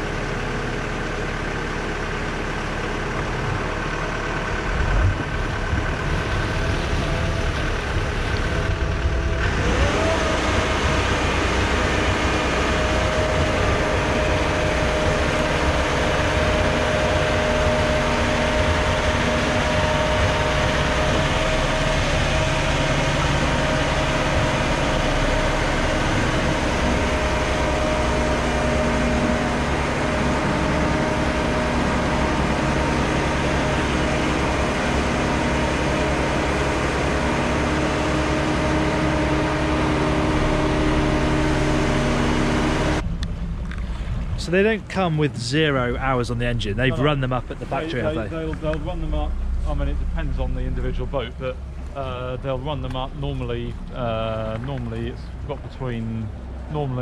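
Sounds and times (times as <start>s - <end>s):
deep engine rumble: 0.0s - 57.0s
engines running: 0.0s - 57.0s
steady whine: 0.0s - 57.0s.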